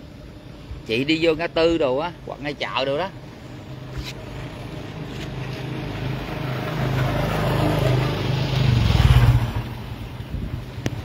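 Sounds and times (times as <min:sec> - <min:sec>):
motorbike passing by: 0:00.8 - 0:11.0.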